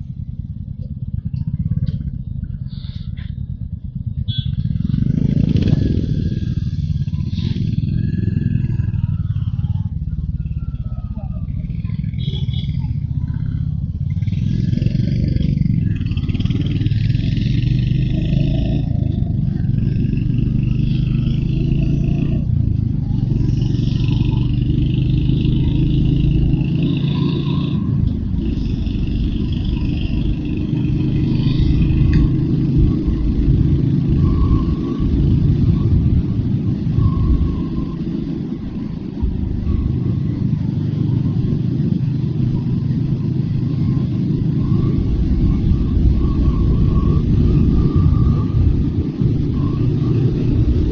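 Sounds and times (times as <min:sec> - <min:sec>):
motorcycle engine running: 0:00.0 - 0:50.9
wind and road noise: 0:00.0 - 0:50.9.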